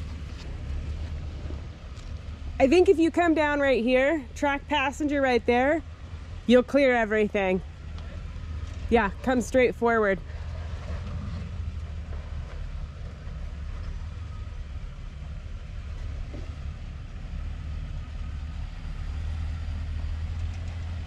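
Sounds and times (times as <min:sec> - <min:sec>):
truck engine low rumble: 0:00.0 - 0:21.0.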